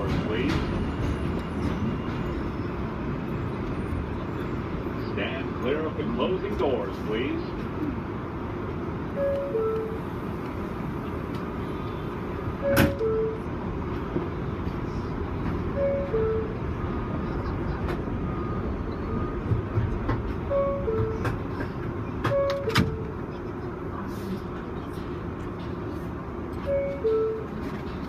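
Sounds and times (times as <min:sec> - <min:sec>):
subway car hum: 0:00.0 - 0:28.0.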